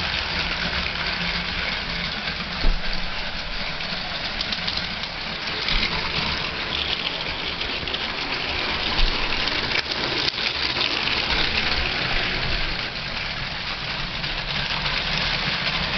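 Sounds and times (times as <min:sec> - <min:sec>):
toy train motors whirring rattle: 0:00.0 - 0:15.9.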